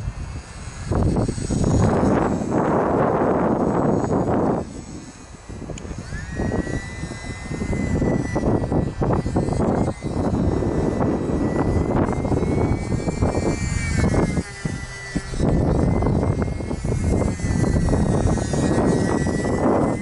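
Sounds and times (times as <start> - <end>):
model plane motor whine: 0.0 - 20.0
wind on microphone: 0.0 - 20.0.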